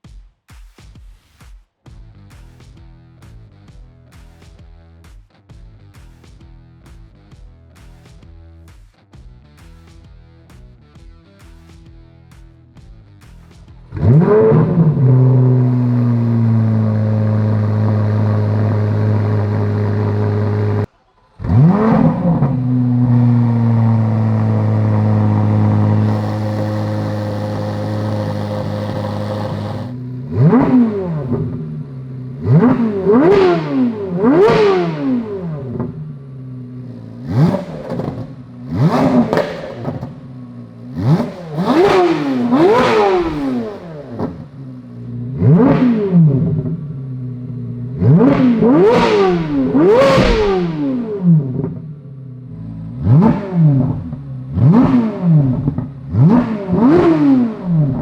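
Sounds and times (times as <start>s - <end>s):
car engine idling and revving: 1.9s - 58.0s.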